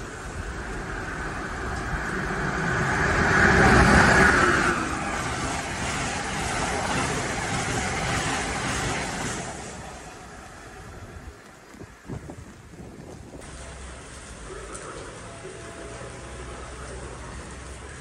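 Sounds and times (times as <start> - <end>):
passenger train passing at speed: 0.0 - 18.0.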